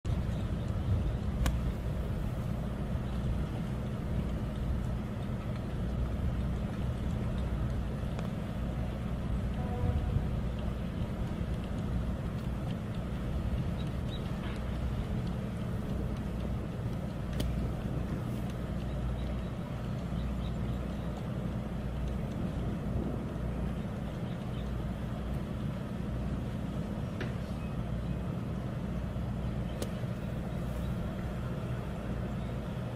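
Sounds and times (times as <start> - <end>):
low outdoor rumble: 0.0 - 32.9.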